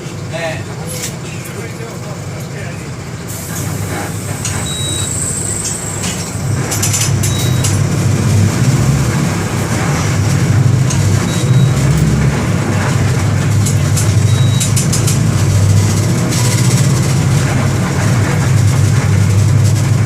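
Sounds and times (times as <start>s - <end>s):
diesel bus engine droning: 0.0s - 20.0s.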